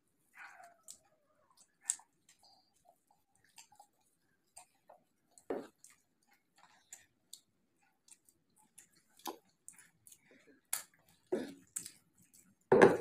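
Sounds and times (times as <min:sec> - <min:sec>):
crunchy chewing of pastry: 0:00.0 - 0:13.0.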